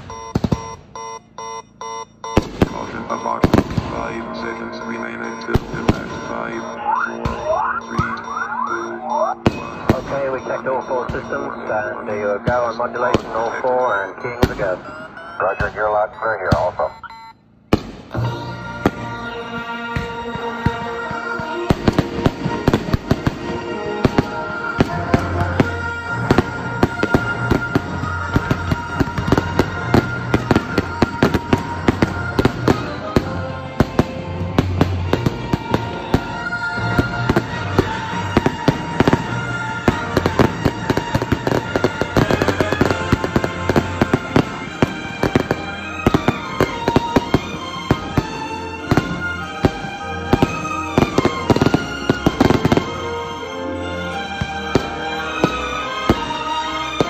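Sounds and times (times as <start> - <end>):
music playing: 0.0 - 57.0.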